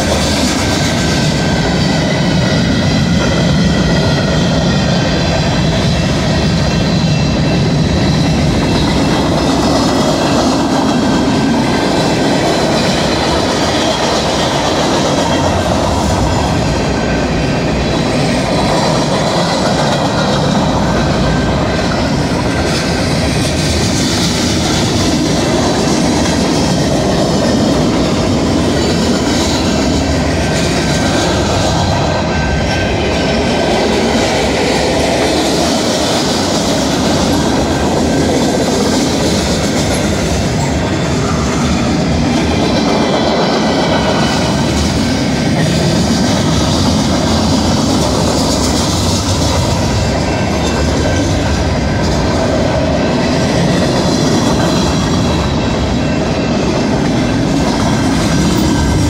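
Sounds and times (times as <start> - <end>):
freight train wheels rushing: 0.0 - 59.0.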